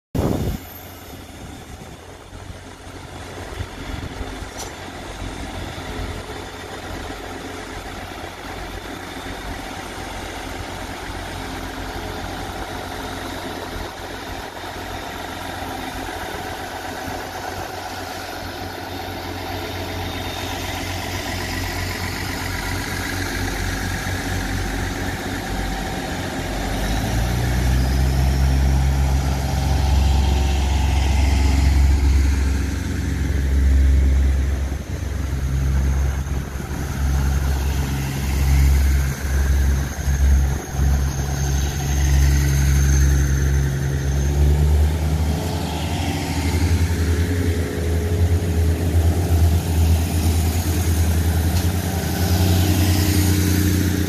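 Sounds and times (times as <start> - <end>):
deep rumble: 0.2 - 54.0
train engine drone: 0.2 - 54.0.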